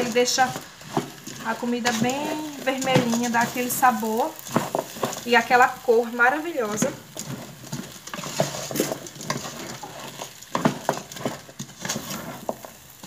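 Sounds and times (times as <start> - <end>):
food sizzling in oil: 0.0 - 13.0
wooden spoon scraping pot: 0.0 - 13.0.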